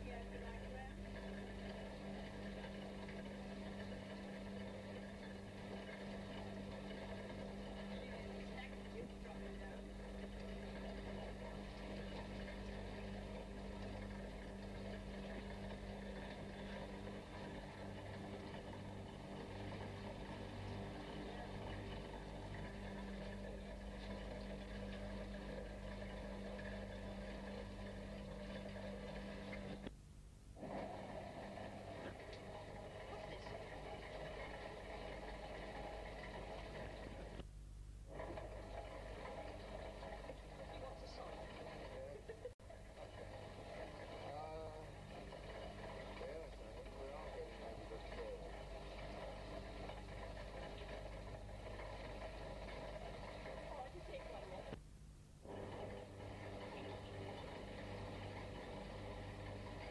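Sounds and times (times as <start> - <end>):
constant hiss: 0.0 - 59.9
steady low hum: 0.0 - 59.9.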